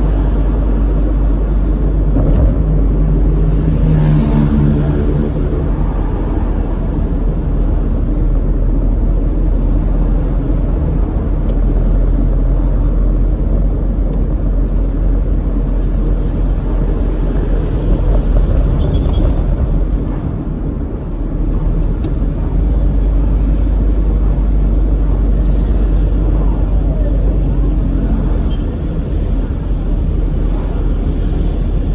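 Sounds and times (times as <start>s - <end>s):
car driving in city traffic: 0.0s - 31.9s.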